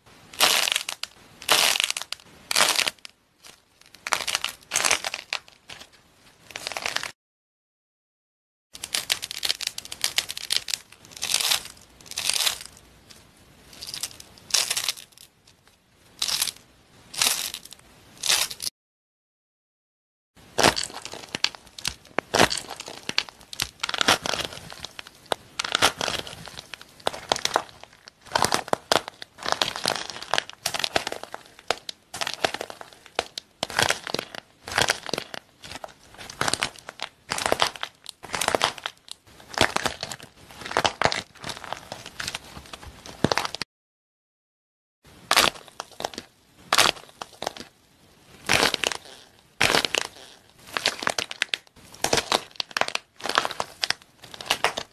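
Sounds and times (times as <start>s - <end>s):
crusty material crunching: 0.4s - 5.9s, 6.5s - 7.2s, 8.8s - 12.8s, 13.7s - 15.2s, 16.2s - 18.7s, 20.5s - 43.6s, 45.3s - 47.7s, 48.4s - 54.9s.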